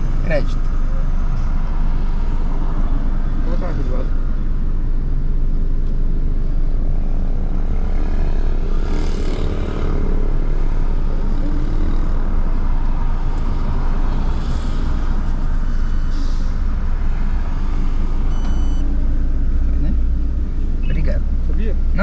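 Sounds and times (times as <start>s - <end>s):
low rumble of motor vehicles: 0.0s - 22.0s.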